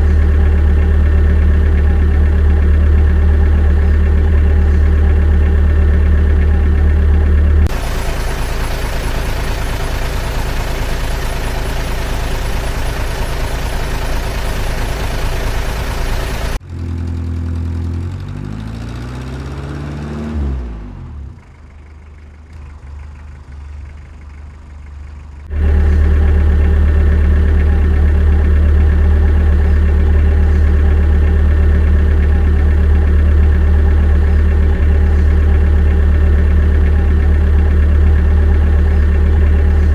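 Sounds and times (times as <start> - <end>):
rc machine engine running: 0.0 - 17.2, 21.6 - 39.9.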